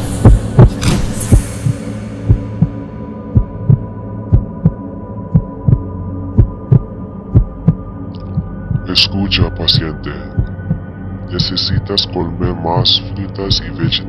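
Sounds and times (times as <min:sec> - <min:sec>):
heartbeat thumps: 0:00.0 - 0:09.0, 0:09.6 - 0:11.9.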